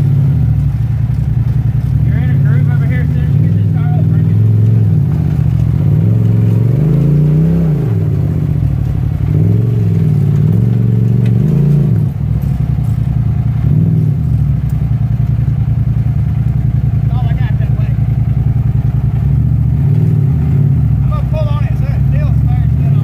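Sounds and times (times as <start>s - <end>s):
off-road vehicle engine revving: 0.0s - 23.0s.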